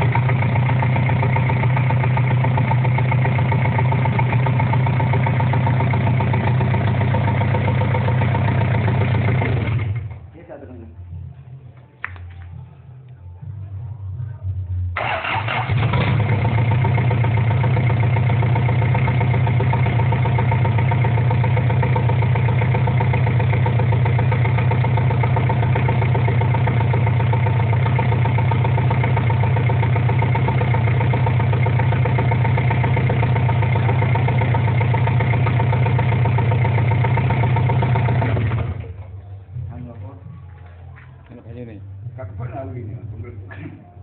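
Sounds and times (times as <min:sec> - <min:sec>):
diesel engine idling: 0:00.0 - 0:10.4, 0:15.0 - 0:39.9.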